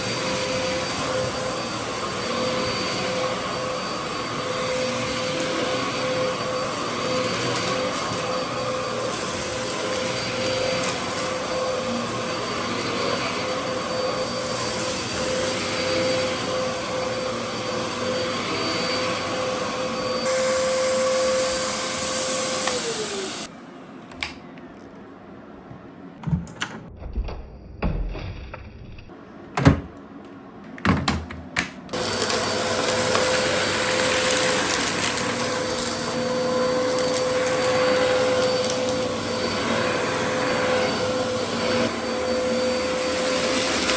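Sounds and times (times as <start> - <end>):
vacuum cleaner running: 0.0 - 23.8, 31.9 - 43.9.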